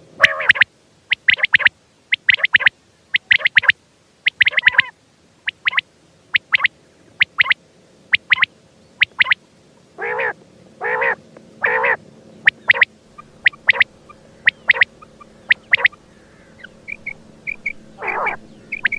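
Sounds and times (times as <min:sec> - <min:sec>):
quail calling: 0:00.2 - 0:09.4, 0:10.0 - 0:18.9.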